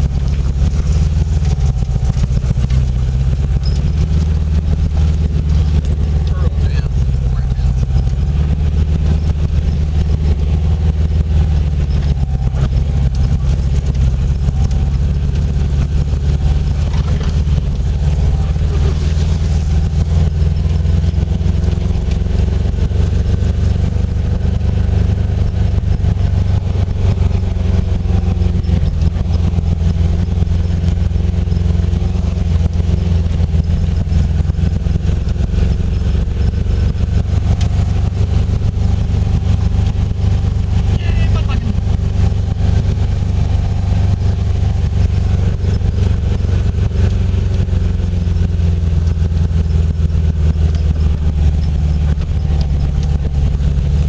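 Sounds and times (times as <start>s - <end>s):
car engine droning inside cabin: 0.0s - 54.0s.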